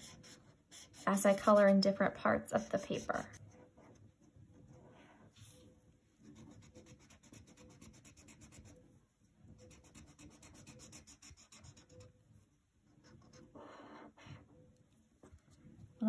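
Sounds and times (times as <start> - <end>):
marker scratching on paper: 0.0 - 8.9, 9.5 - 14.2.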